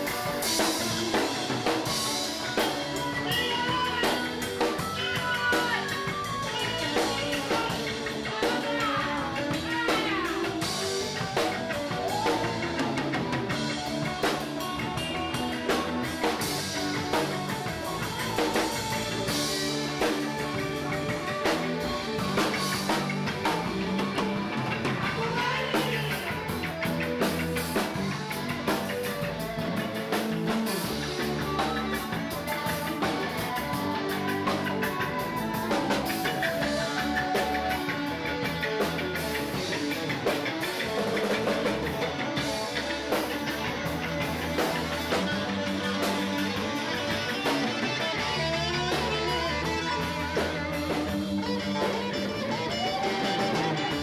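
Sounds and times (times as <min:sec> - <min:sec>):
drum kit: 0:00.0 - 0:54.0
electric guitar playing: 0:00.0 - 0:54.0.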